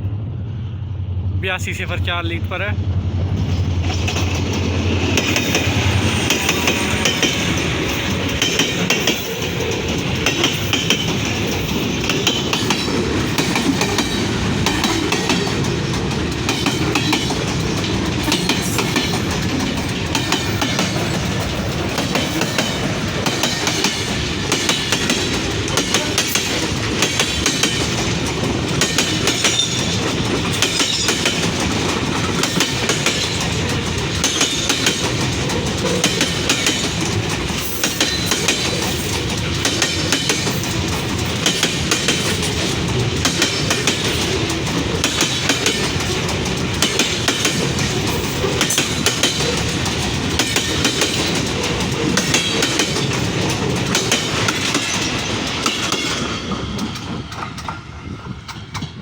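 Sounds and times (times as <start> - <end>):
freight train rattling past: 0.0 - 59.0.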